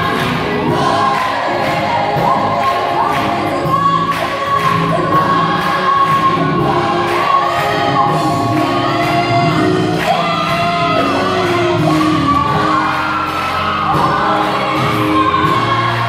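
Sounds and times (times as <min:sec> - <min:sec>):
choir singing: 0:00.0 - 0:16.0
rhythmic hand clapping: 0:00.0 - 0:16.0.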